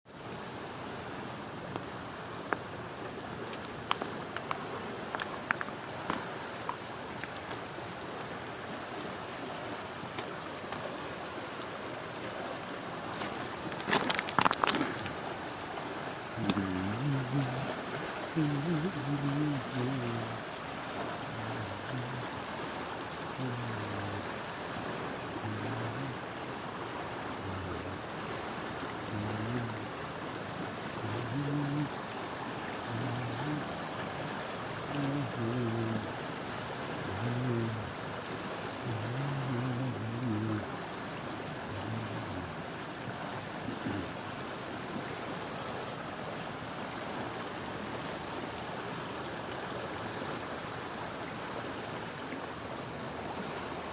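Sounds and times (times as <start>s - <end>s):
flowing water rushing: 0.1s - 53.9s.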